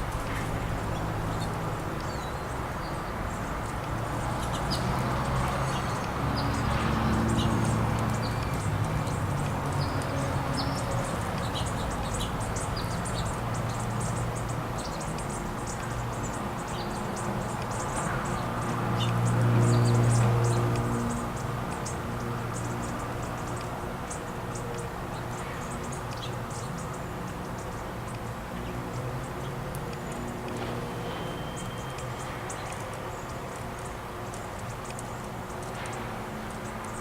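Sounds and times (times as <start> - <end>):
small songbirds chirping: 0.0 - 37.0.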